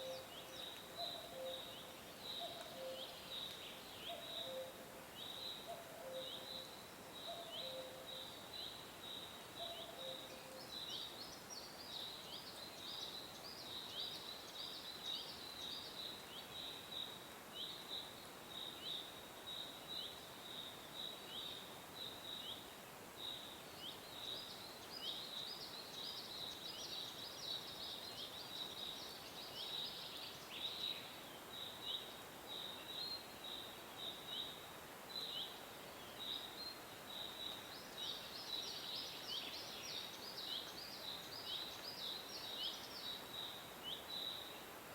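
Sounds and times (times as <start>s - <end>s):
faint hiss: 0.0s - 44.9s.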